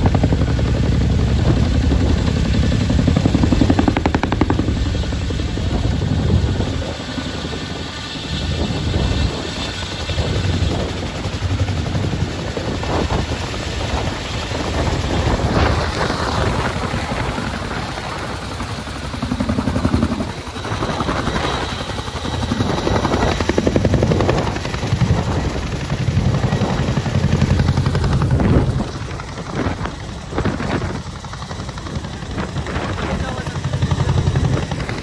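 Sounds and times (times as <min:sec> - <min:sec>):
helicopter rotor chop: 0:00.0 - 0:35.0
turbine noise: 0:00.0 - 0:35.0.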